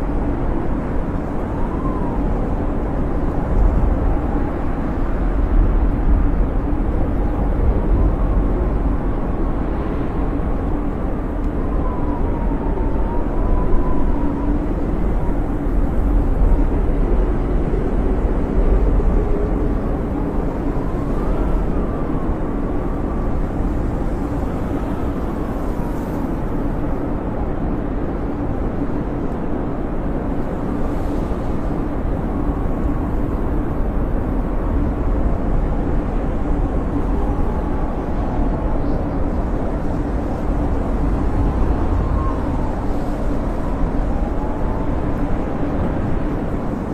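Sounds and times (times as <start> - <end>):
snowstorm wind rushing: 0.0 - 46.9
wind whistling howl: 0.0 - 46.9.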